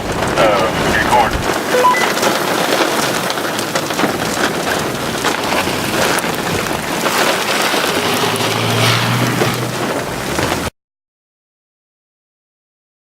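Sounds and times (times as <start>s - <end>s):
heavy rain on a vehicle: 0.0s - 10.7s.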